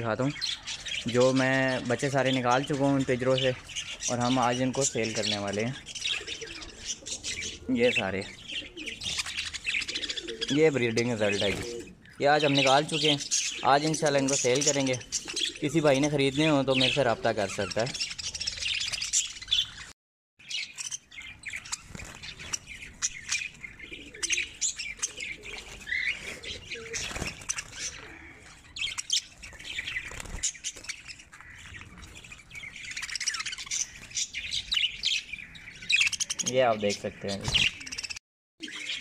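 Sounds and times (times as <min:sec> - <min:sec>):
budgerigars chirping: 0:00.0 - 0:39.0.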